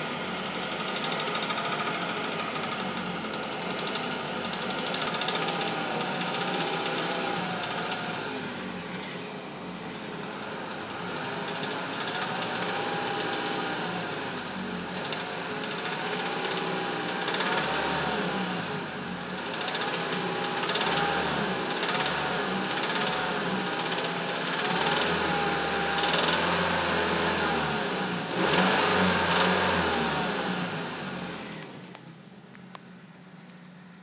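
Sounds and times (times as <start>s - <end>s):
car engine running: 0.0s - 34.0s
fast steady engine ticking: 0.0s - 34.0s.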